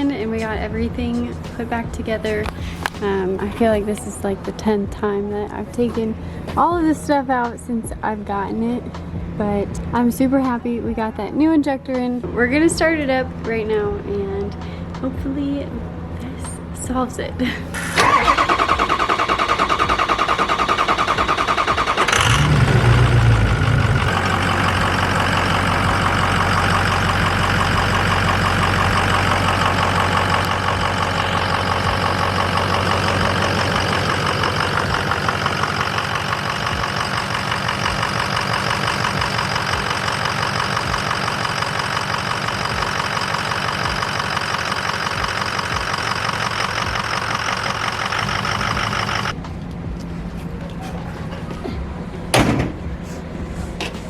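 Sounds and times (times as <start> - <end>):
diesel engine cranking and idling: 0.0 - 54.0.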